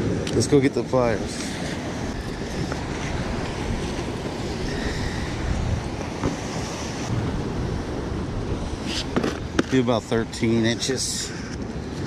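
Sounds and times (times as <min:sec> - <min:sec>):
surf washing against rocks: 0:00.0 - 0:12.0
wind noise on microphone: 0:00.0 - 0:12.0.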